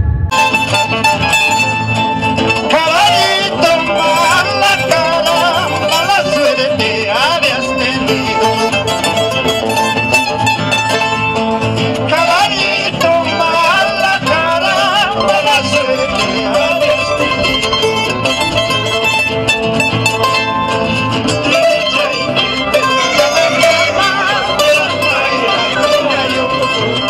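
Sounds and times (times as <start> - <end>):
background music with plucked strings: 0.3 - 27.0.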